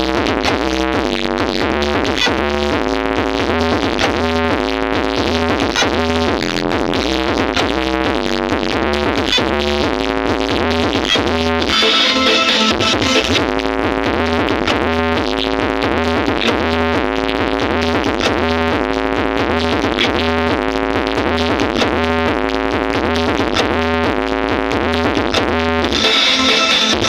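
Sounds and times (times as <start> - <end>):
electronic dance music: 0.1 - 27.0.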